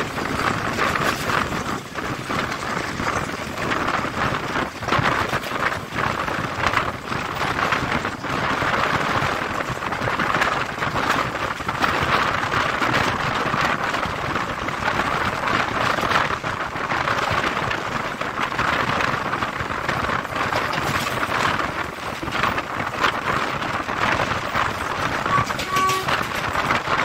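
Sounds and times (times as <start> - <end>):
train wheels clattering over rails: 0.0 - 27.0.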